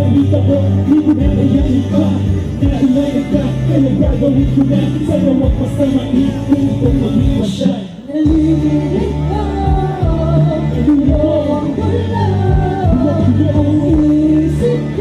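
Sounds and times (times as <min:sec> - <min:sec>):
bass-heavy backing beat: 0:00.0 - 0:15.0
person singing: 0:00.0 - 0:15.0.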